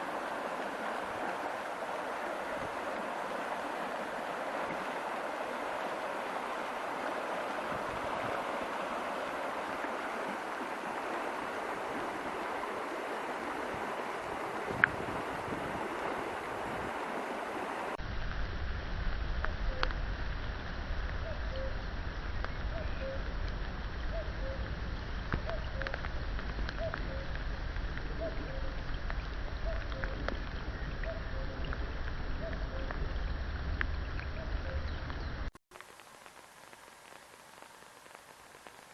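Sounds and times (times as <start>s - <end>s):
rushing water: 0.0s - 18.4s, 19.1s - 38.9s
heavy rain: 0.0s - 38.9s.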